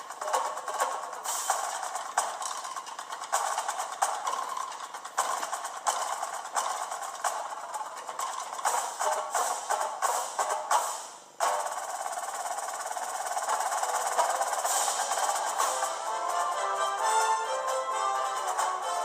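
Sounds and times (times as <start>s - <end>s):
credits music with steady percussion: 0.0s - 19.0s.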